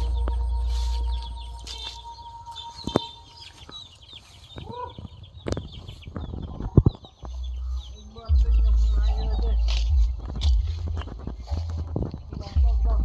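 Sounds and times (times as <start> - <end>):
chickens clucking: 0.0 - 12.7
small birds chirping: 0.0 - 13.0.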